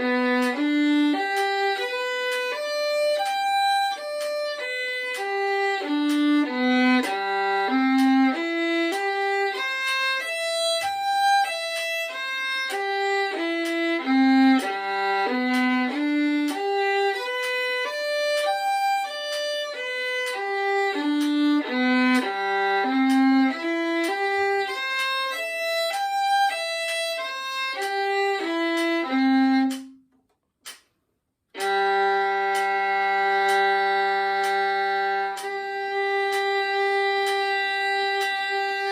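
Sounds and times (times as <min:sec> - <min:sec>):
sustained bowed violin double stop: 0:00.0 - 0:30.0, 0:31.6 - 0:38.9
violin playing arpeggios: 0:00.0 - 0:30.0, 0:31.6 - 0:38.9.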